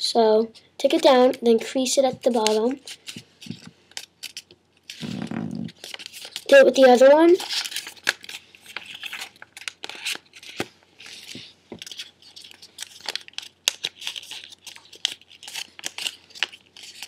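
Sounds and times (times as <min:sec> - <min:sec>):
paper crinkling and creasing: 0:02.3 - 0:17.0.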